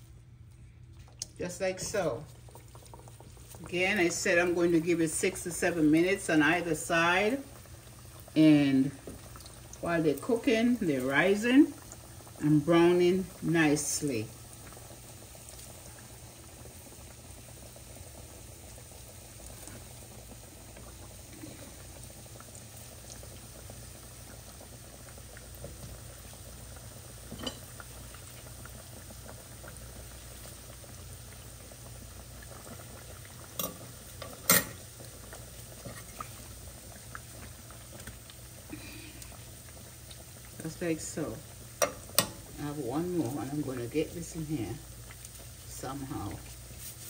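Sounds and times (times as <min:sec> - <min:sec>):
dough deep-frying in oil: 0:00.0 - 0:47.0.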